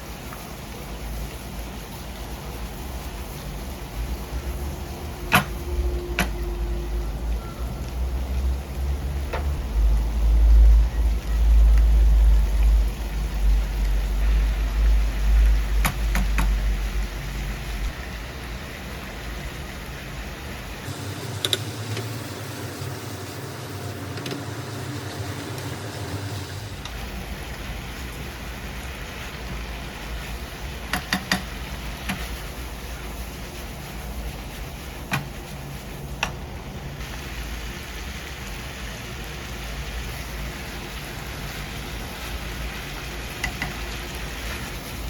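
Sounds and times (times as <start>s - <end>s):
food sizzling in a frying pan: 0.0s - 45.0s.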